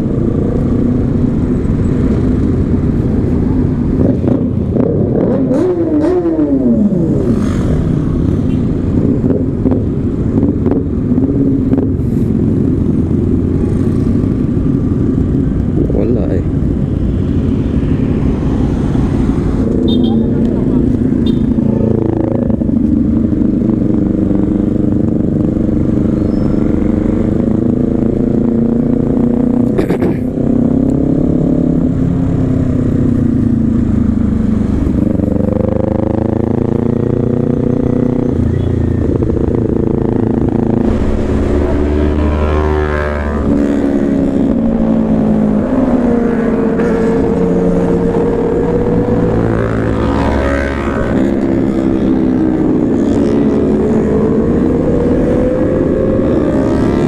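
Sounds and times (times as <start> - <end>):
motorcycle engine revving: 0.0 - 57.0
road and wind noise: 0.0 - 57.0.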